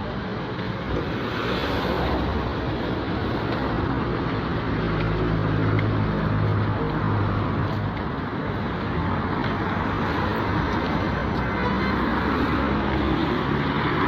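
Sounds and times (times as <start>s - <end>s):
vehicles passing close by: 0.0s - 14.0s.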